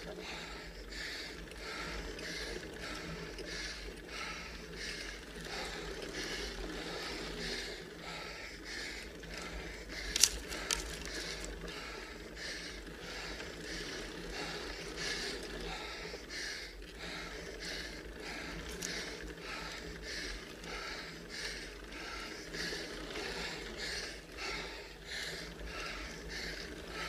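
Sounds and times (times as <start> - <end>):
person breathing hard: 0.0 - 27.0.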